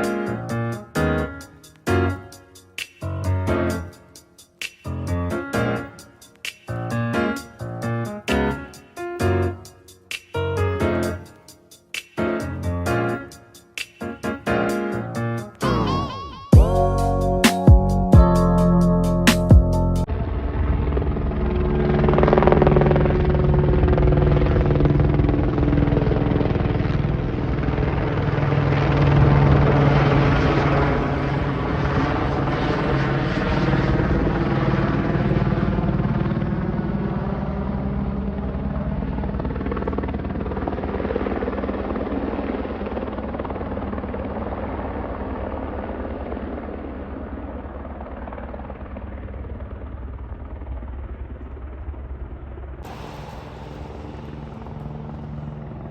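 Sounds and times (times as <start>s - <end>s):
helicopter flying overhead: 0.0s - 55.9s.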